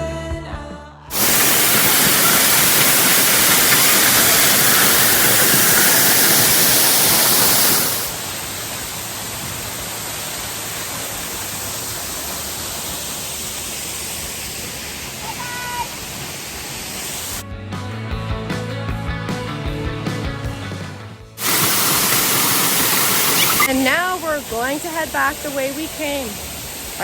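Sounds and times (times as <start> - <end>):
waterfall rushing: 1.1 - 17.4, 21.4 - 27.0.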